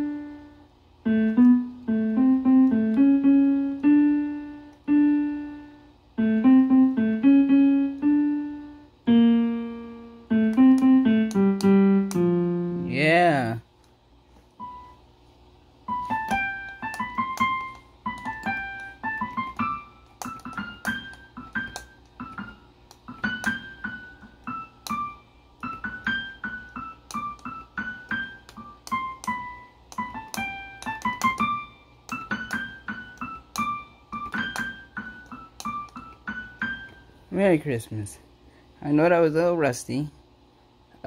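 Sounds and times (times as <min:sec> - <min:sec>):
digital keyboard melody: 0:00.0 - 0:13.5, 0:14.6 - 0:15.0, 0:15.9 - 0:37.1.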